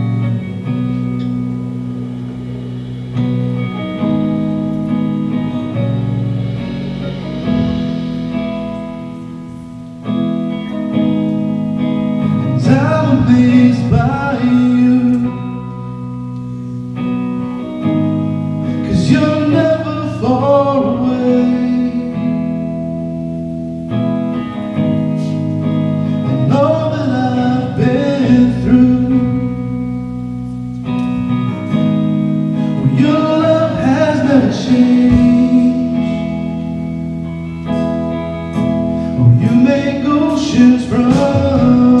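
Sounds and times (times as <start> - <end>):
guitar: 0.0 - 42.0
worship band music: 0.0 - 42.0.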